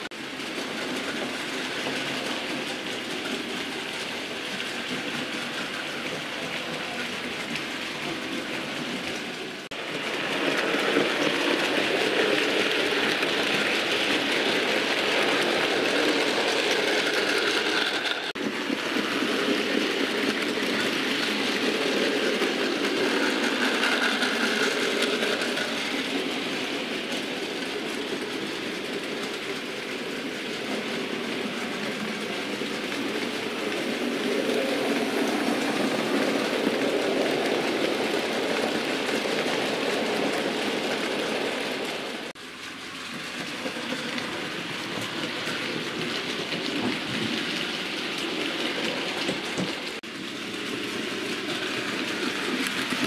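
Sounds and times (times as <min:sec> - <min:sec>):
model train whirring and rattling: 0:00.0 - 0:53.0.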